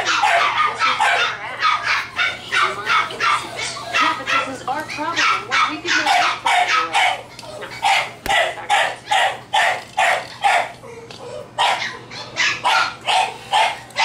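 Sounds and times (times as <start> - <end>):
puppy yapping: 0.0 - 14.0.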